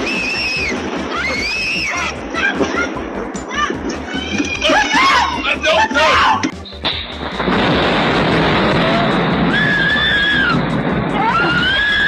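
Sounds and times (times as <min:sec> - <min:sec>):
thunderclap rumbling: 0:00.0 - 0:05.6, 0:06.4 - 0:12.0
people crying out: 0:00.2 - 0:06.5, 0:08.6 - 0:12.0.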